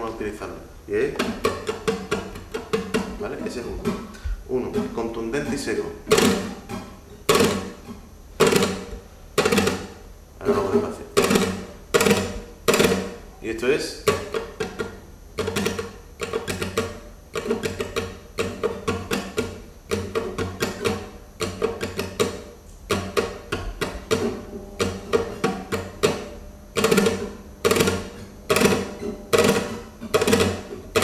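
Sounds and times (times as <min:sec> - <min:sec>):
flamenco guitar strumming: 0:00.0 - 0:31.0.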